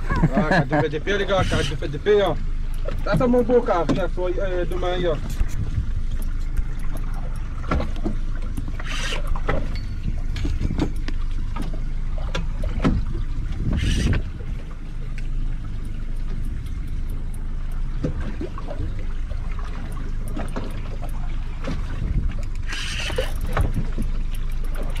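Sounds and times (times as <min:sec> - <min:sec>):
boat engine low rumble: 0:00.0 - 0:25.0
water against hull: 0:00.0 - 0:25.0.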